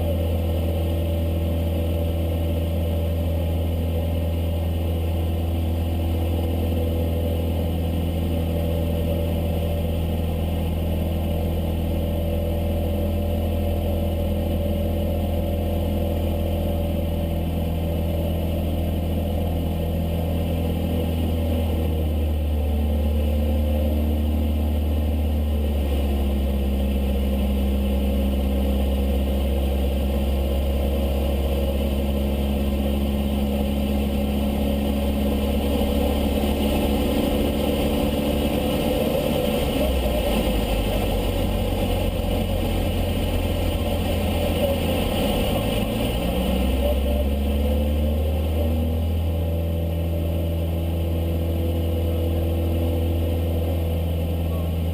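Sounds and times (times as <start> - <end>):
light aircraft engine in flight: 0.0 - 54.9.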